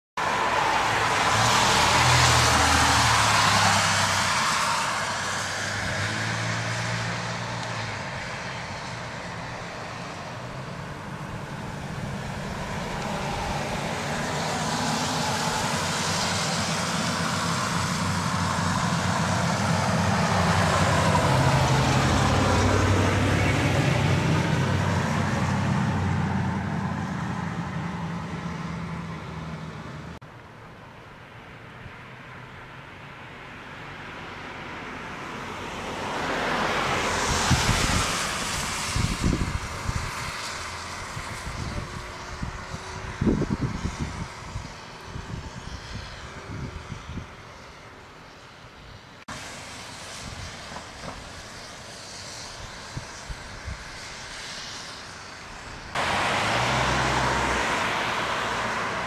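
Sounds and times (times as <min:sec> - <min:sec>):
vehicles passing: 0:00.2 - 0:59.0.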